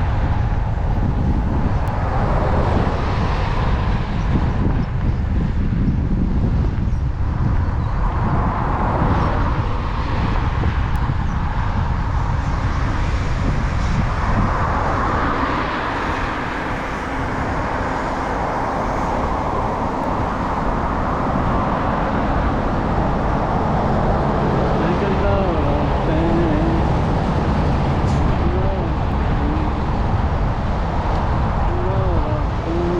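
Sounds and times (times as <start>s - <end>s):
hum of bike tyres: 0.0s - 32.9s
wind buffeting microphone: 0.0s - 32.9s.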